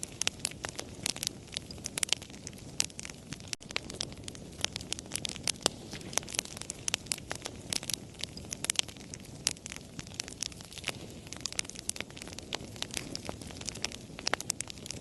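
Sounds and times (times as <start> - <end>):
hiss and rumble of flames: 0.0 - 15.0
wood fire crackling: 0.0 - 15.0.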